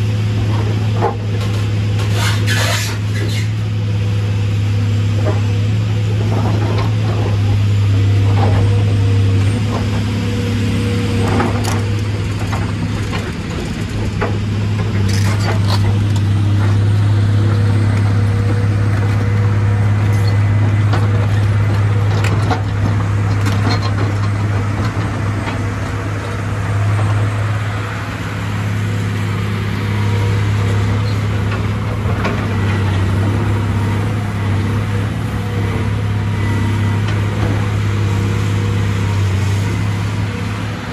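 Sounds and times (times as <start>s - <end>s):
excavator diesel engine running: 0.0s - 2.2s, 3.0s - 40.9s.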